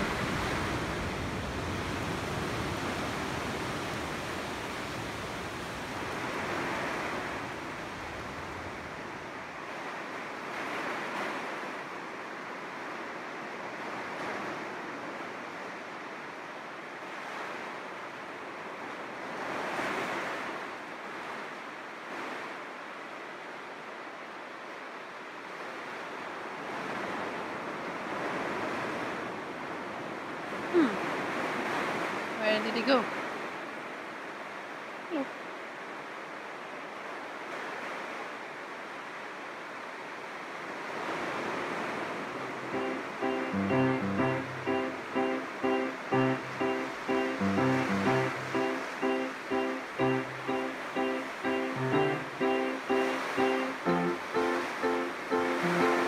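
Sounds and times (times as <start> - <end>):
sea water and surf rushing: 0.0 - 56.0.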